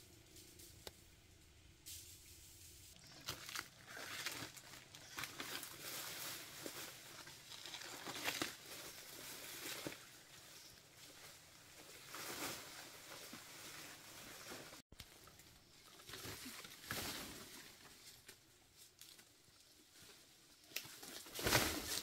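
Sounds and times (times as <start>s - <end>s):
rustling and crinkling: 1.8s - 22.0s.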